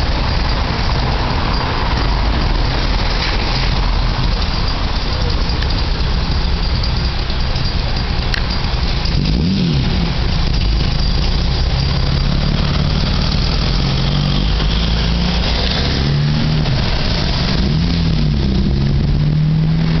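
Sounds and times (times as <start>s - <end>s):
vehicle engines revving: 0.0s - 20.0s.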